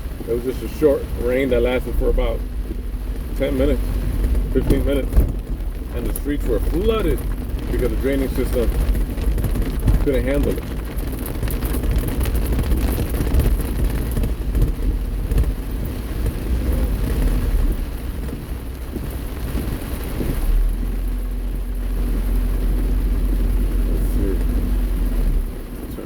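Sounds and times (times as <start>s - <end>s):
car rumbling on wet road: 0.0s - 26.0s
deep steady rumble: 0.0s - 26.0s
heavy rain on car roof: 0.0s - 26.0s.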